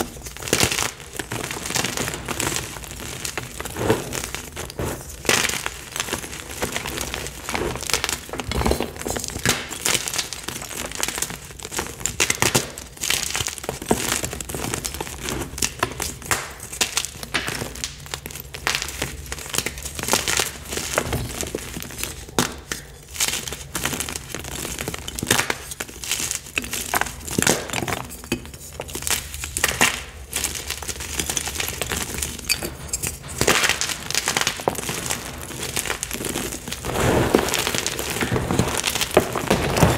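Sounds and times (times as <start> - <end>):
powdery crumbling: 0.0 - 39.9.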